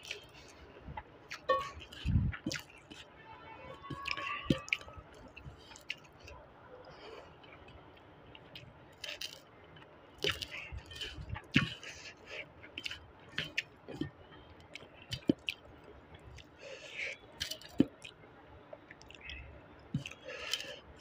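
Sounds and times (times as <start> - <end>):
person chewing rice: 0.0 - 3.1, 3.8 - 21.0.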